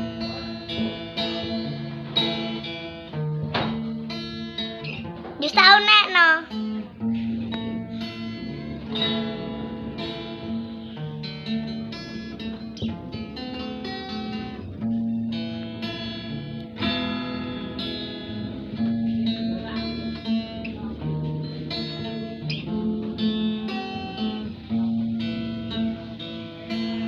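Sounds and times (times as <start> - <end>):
plucked guitar: 0.0 - 27.0.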